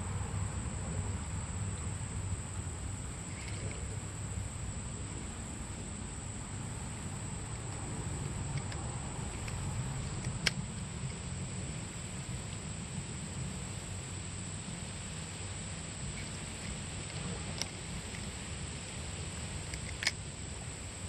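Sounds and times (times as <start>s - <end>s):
low rumble of wind or water: 0.0s - 21.0s.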